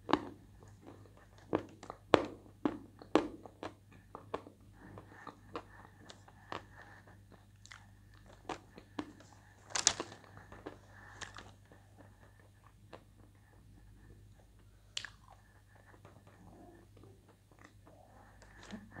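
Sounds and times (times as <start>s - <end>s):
chewing: 3.0s - 19.0s.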